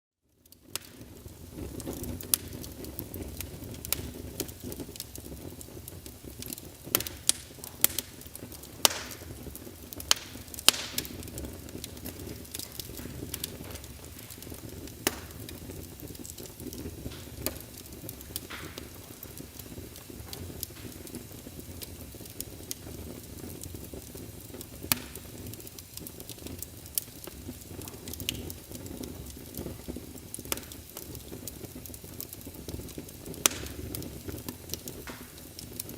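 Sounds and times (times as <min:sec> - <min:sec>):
campfire pops and crackles: 0:00.3 - 0:35.9.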